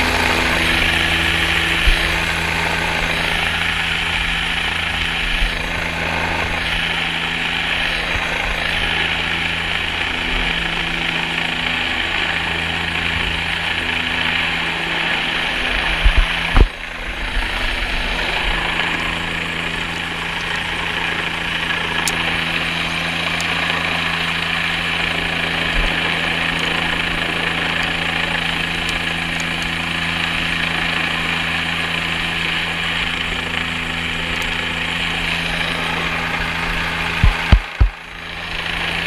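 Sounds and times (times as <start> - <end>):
helicopter running: 0.0 - 39.0.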